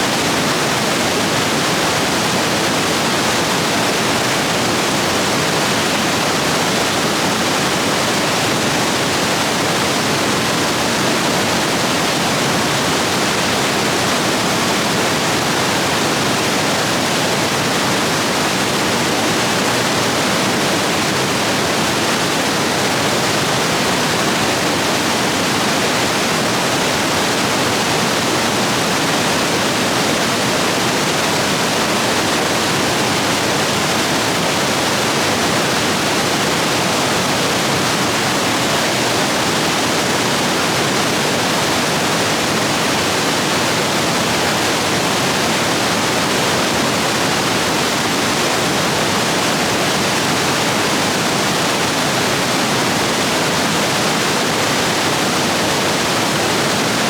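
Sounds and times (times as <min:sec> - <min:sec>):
stream rapids rushing: 0:00.0 - 0:57.0.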